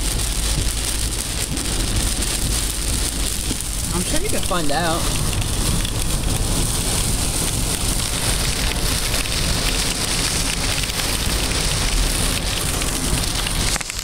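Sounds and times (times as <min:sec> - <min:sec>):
heavy rain on a car: 0:00.0 - 0:14.0
low rumble: 0:00.0 - 0:14.0.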